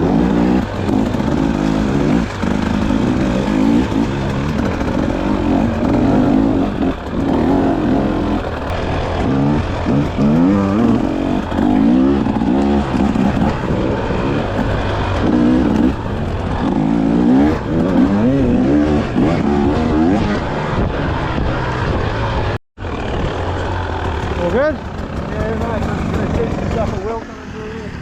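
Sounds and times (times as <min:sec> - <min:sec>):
dirt bike engine revving: 0:00.0 - 0:27.7.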